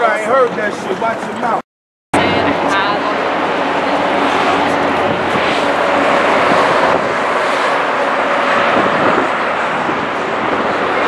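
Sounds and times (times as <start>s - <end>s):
city traffic rushing: 0.0s - 1.6s, 2.2s - 11.0s.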